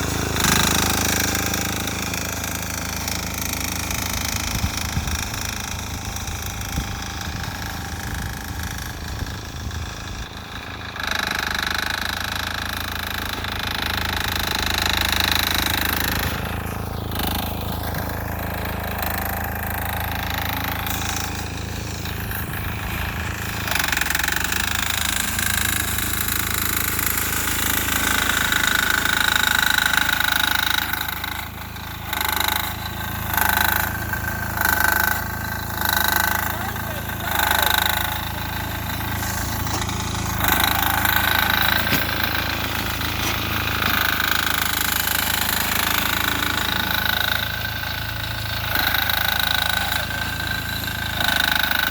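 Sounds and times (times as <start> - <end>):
diesel tractor engine knocking: 0.0 - 51.9.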